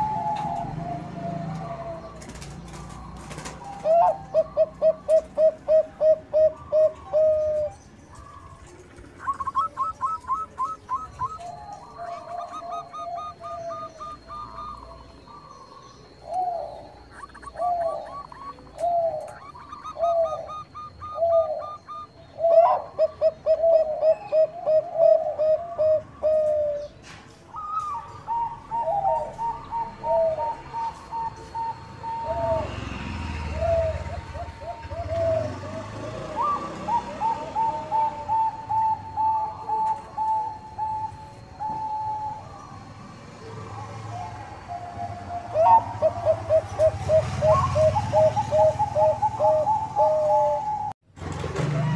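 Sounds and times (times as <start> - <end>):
higher bird notes: 0.0 - 51.0
doves cooing: 0.0 - 51.9.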